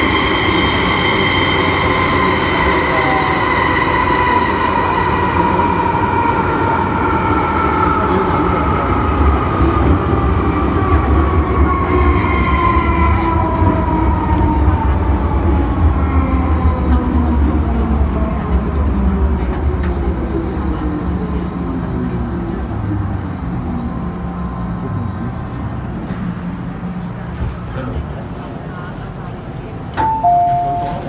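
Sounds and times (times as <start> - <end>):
rumble of train wheels: 0.0 - 31.0.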